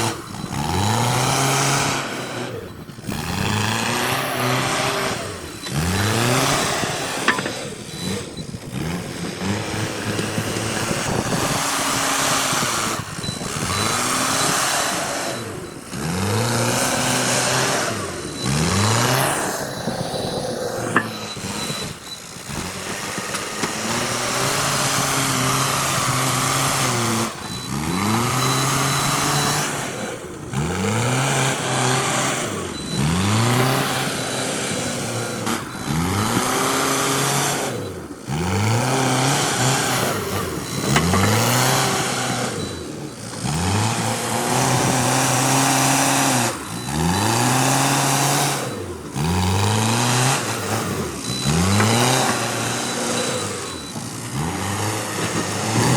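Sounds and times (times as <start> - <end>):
diesel engine revving under load: 0.0 - 55.9.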